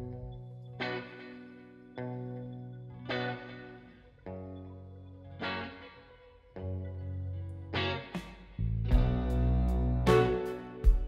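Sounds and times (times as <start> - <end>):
guitar chords with effects: 0.0 - 11.0.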